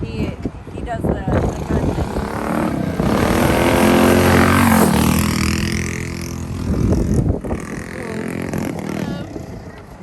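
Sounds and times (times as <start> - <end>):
small engine passing by: 1.4 - 10.0.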